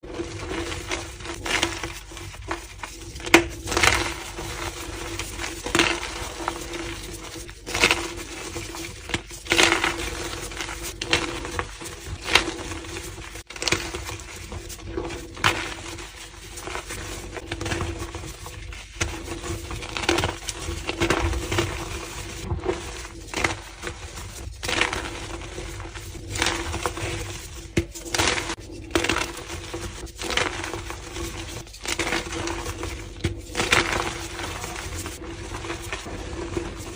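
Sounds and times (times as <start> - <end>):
chalk being crushed: 0.0 - 36.9.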